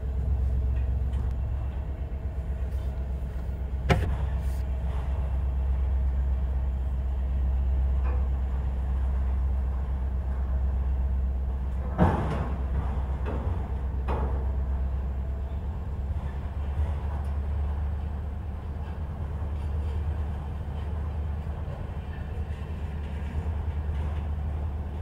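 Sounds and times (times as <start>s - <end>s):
freight train wheels rumbling on rail: 0.0s - 25.0s.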